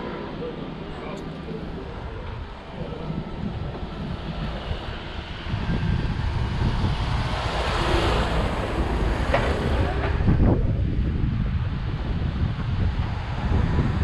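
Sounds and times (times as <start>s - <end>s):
outdoor rush: 0.0s - 14.0s
wind buffeting microphone: 0.0s - 14.0s.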